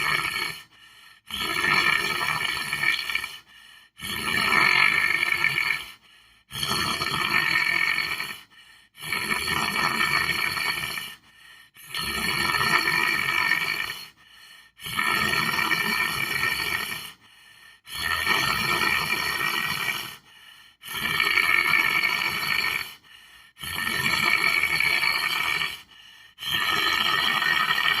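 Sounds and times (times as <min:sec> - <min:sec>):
person snoring: 0:00.0 - 0:28.0.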